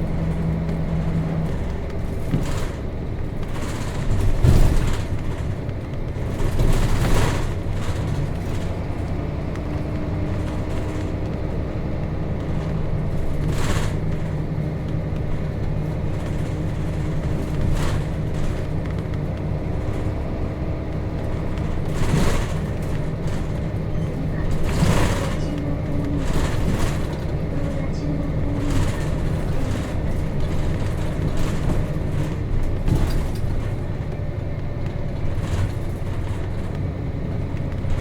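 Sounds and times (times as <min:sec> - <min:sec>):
bus diesel engine running: 0:00.0 - 0:38.0.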